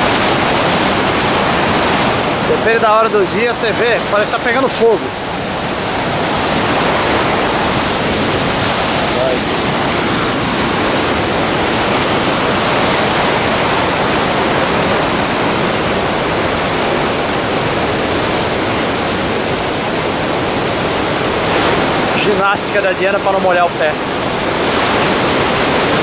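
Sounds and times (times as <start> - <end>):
waterfall and rapids rushing: 0.0 - 26.0.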